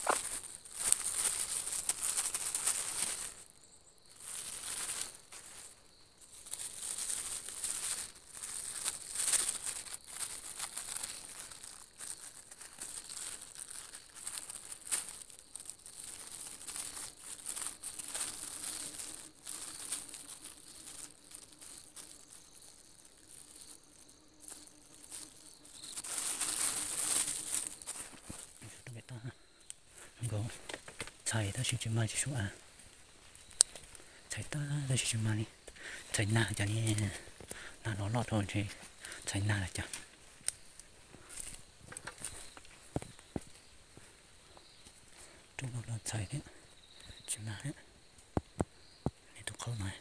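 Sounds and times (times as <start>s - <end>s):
close rustling and crackling: 0.0s - 50.0s.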